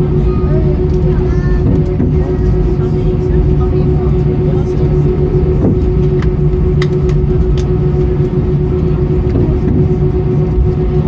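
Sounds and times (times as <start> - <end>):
aircraft cabin rumble: 0.0 - 11.0
constant hum: 0.0 - 11.0.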